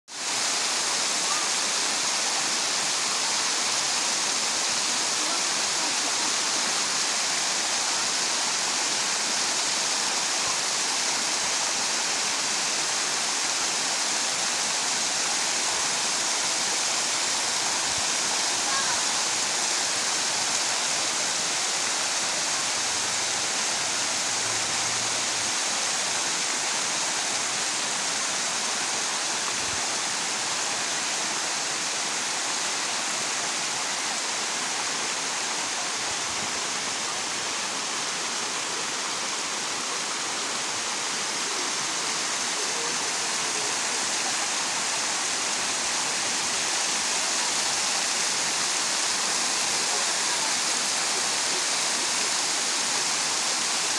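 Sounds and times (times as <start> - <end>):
water cascading and splashing: 0.1 - 53.9.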